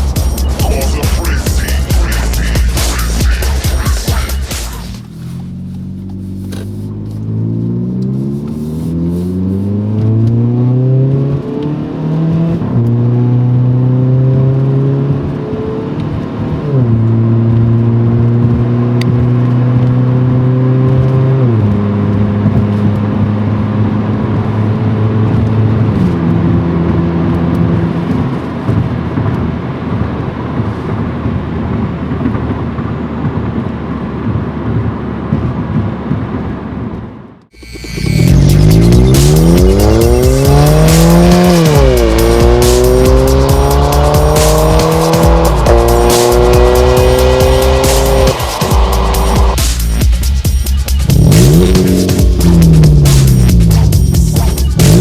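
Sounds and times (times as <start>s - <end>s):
car engine accelerating: 0.0s - 55.0s
road noise rushing: 0.0s - 55.0s.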